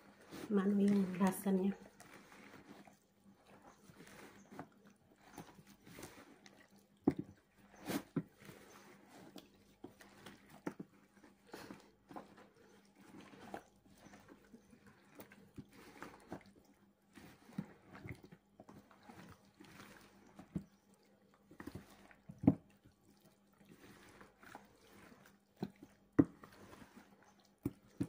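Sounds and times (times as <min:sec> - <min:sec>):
wet squelching of kneading: 0:00.0 - 0:28.0.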